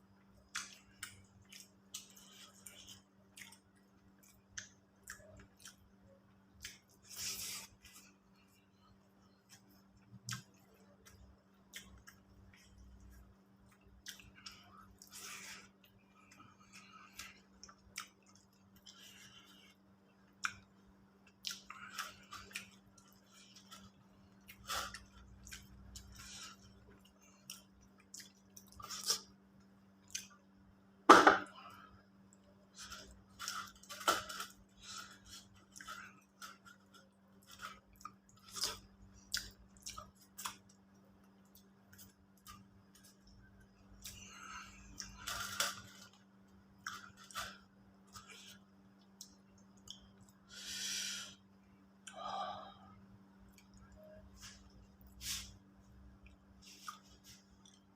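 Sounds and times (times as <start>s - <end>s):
faint steady hum: 0.0s - 57.9s
person chewing: 0.4s - 30.6s, 31.5s - 51.3s, 53.5s - 57.9s.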